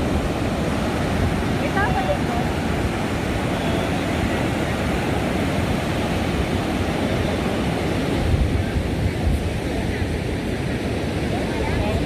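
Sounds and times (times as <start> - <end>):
ocean surf on a beach: 0.0 - 12.0
wind buffeting the microphone: 0.0 - 12.0.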